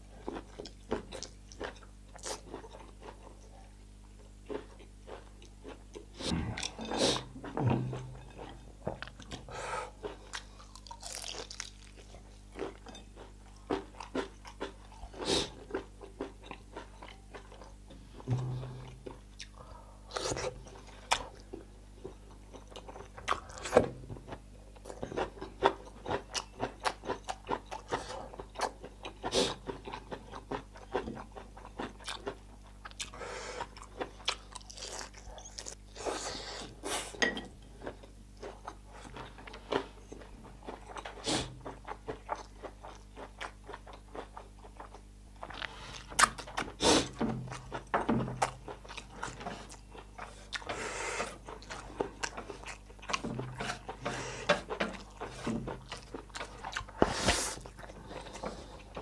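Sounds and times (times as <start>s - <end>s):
man chewing food: 0.0s - 59.0s.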